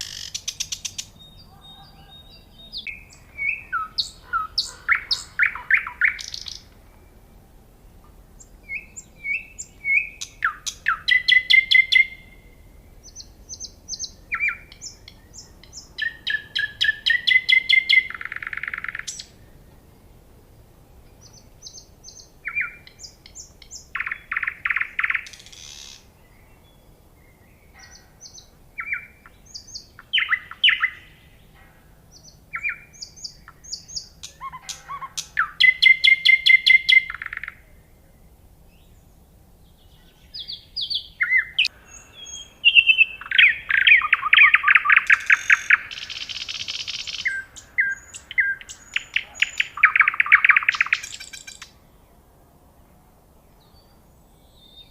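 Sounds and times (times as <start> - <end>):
songbird trilling and whistling: 0.0 - 7.2, 8.4 - 19.4, 21.2 - 26.8, 27.4 - 31.3, 32.2 - 37.6, 39.9 - 51.8.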